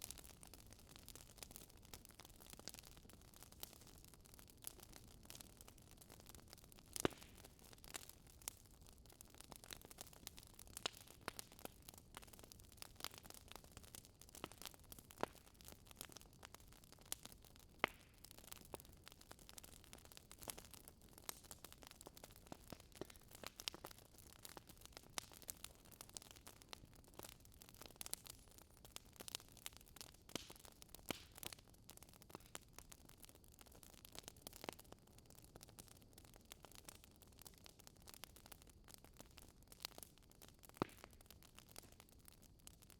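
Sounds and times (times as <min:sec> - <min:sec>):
fire crackling in fireplace: 0:00.0 - 0:42.9.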